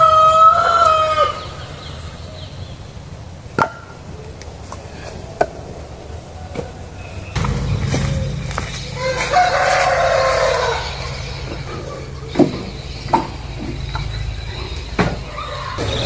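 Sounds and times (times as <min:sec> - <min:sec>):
rooster crowing: 0:00.0 - 0:02.6, 0:05.2 - 0:16.0
steady low rumble: 0:01.4 - 0:16.0.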